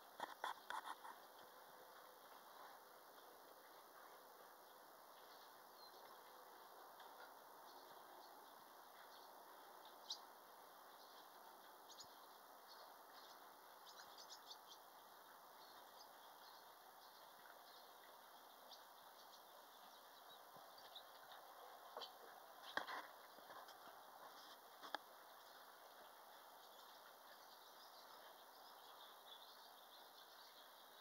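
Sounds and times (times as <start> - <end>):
faint water sounds: 0.0 - 31.0.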